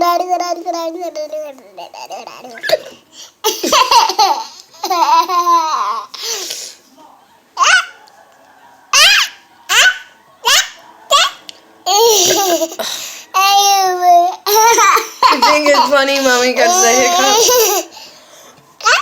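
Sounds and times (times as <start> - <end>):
baby laughing: 0.0 - 6.1, 8.9 - 18.0, 18.8 - 19.0.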